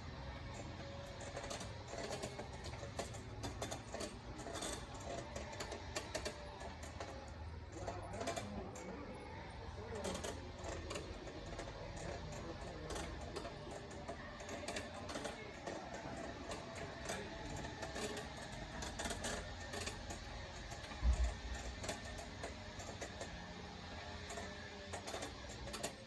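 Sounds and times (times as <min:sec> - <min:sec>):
faint store background music: 0:00.0 - 0:26.0.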